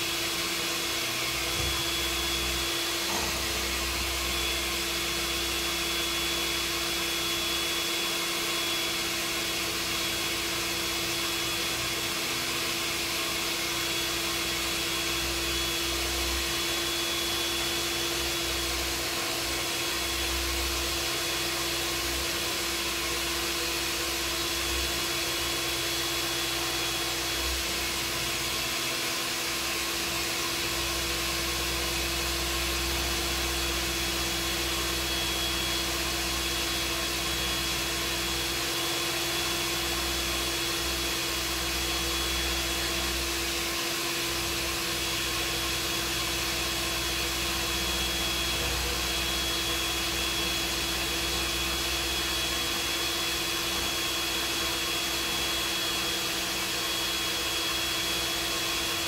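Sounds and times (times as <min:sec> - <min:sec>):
electric motor whirring: 0:00.1 - 0:59.0.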